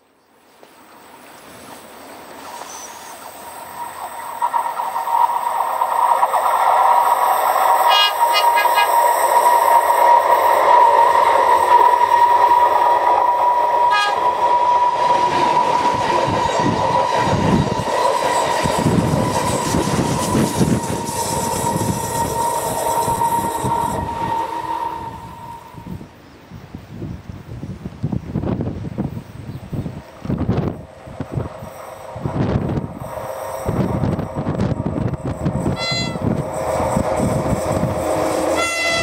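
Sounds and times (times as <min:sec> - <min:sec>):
train rumble and wheel noise: 0:00.0 - 0:39.0
train whine: 0:00.8 - 0:26.9, 0:28.1 - 0:39.0.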